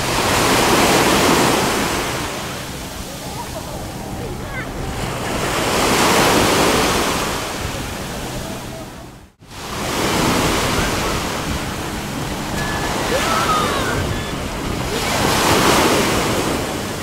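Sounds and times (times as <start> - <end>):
sea surf washing: 0.0 - 17.0
wind buffeting microphone: 0.0 - 17.0.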